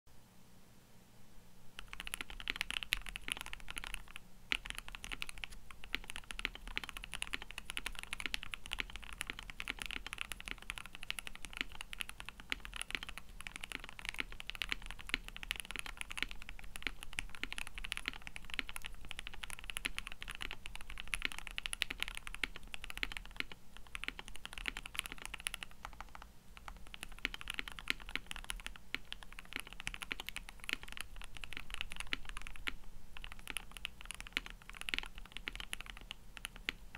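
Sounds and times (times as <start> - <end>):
mechanical keyboard typing: 1.8 - 36.9.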